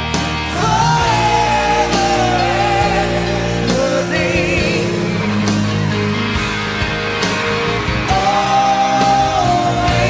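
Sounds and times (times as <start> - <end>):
rock power ballad instrumental: 0.0 - 10.0.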